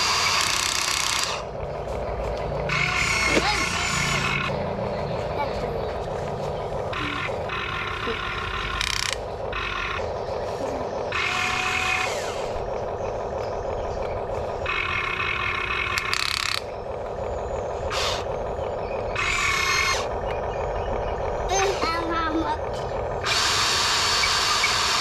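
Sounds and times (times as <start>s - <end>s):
electric motors whining: 0.0s - 25.0s
steady low hum: 0.0s - 25.0s.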